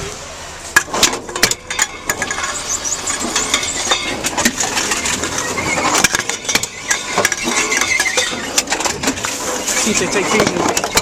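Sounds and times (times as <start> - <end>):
vending machine crushing containers: 0.8 - 11.0.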